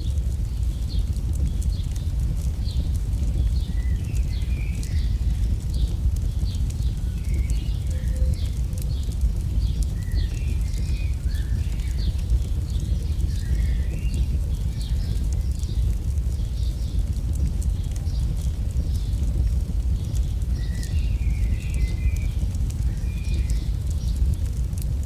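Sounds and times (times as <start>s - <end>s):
campfire crackle: 0.0s - 25.0s
low rumble: 0.0s - 25.0s.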